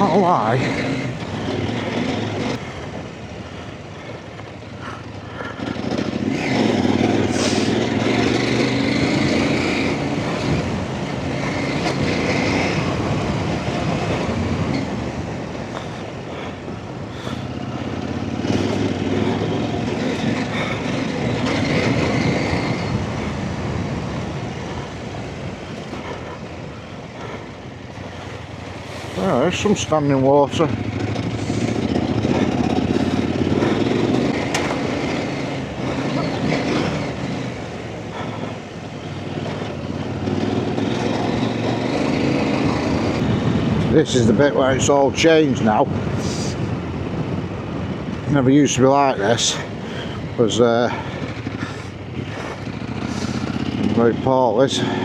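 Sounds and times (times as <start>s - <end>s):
motorcycle engine revving: 0.0s - 48.2s, 48.8s - 55.0s.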